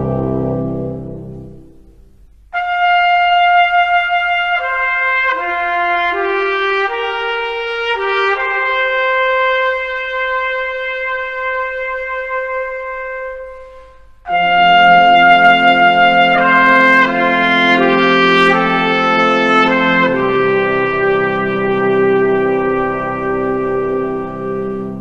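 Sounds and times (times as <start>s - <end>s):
solo trumpet slow melody: 0.0s - 25.0s.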